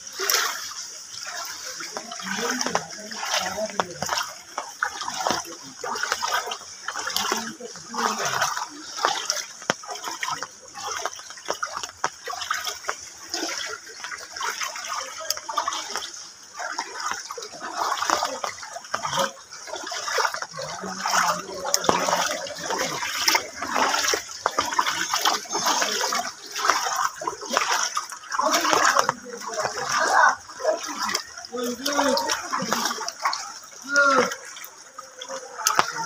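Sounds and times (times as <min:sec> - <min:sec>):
flowing water rushing: 0:00.0 - 0:36.0
water splashing around feet: 0:00.0 - 0:36.0.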